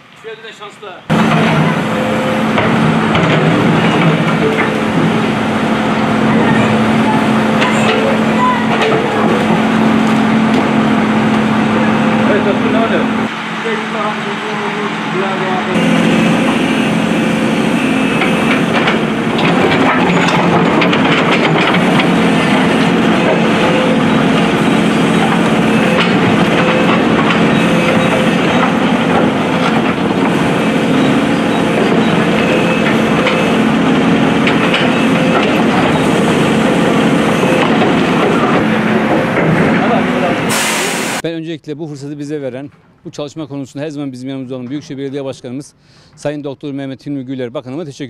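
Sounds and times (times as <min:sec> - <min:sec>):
excavator diesel engine running: 0:01.0 - 0:41.2.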